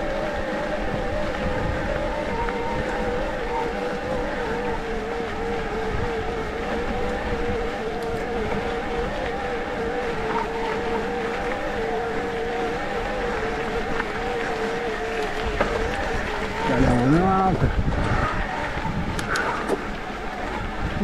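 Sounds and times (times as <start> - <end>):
electric bike motor whining: 0.0 - 21.0
wind and tyres on dirt: 0.0 - 21.0.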